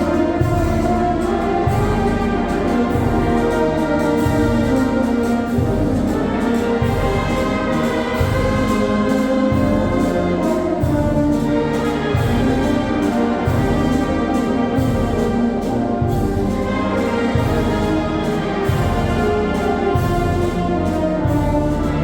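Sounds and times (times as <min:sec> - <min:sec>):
brass and wind band playing: 0:00.0 - 0:22.0.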